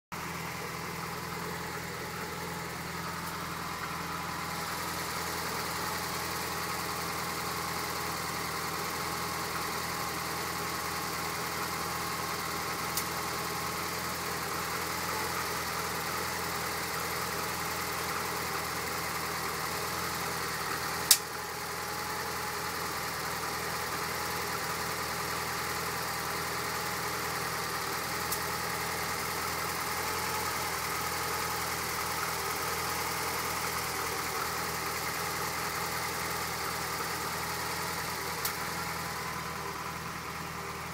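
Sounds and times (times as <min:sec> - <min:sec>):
car engine idling: 0:00.1 - 0:40.9.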